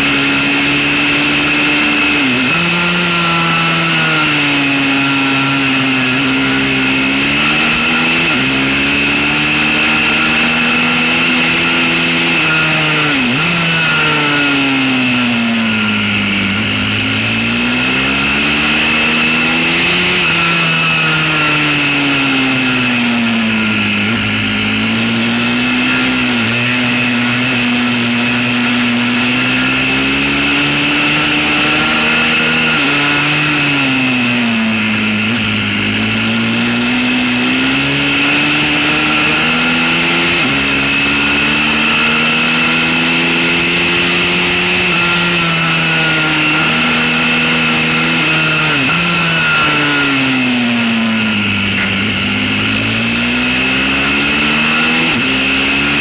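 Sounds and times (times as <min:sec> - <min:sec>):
small motorcycle engine revving: 0:00.0 - 0:56.0.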